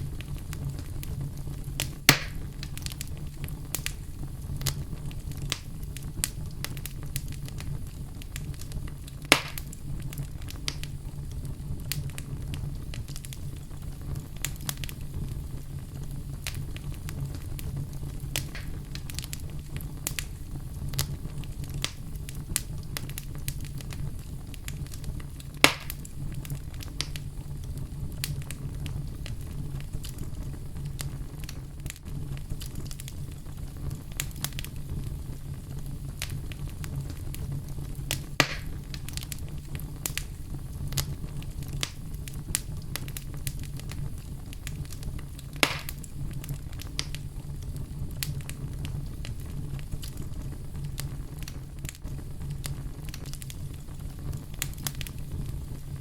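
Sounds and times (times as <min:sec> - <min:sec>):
fire burning in fireplace: 0:00.0 - 0:56.0
fire crackles: 0:00.0 - 0:56.0
loud fire pops: 0:00.0 - 0:56.0.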